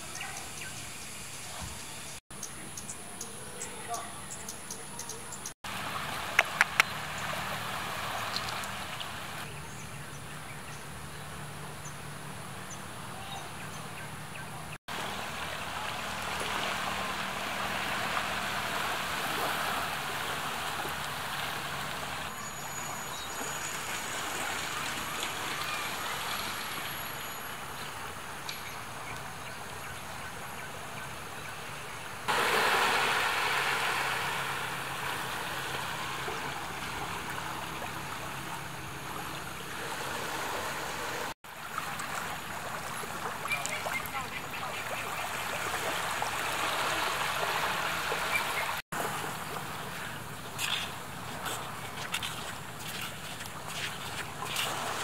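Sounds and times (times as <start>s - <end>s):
distant engine drone: 5.0s - 29.8s, 32.3s - 55.0s
small waves lapping: 5.6s - 55.0s.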